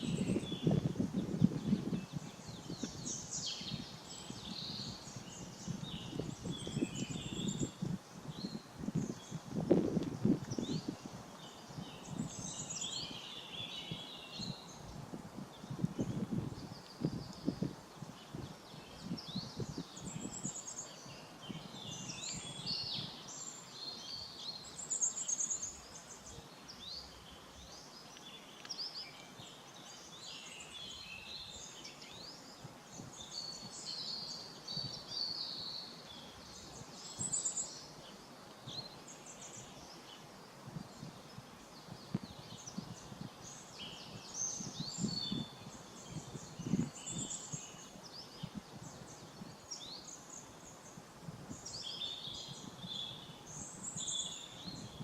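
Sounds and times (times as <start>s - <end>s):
small birds singing and chirping: 0.0s - 55.0s.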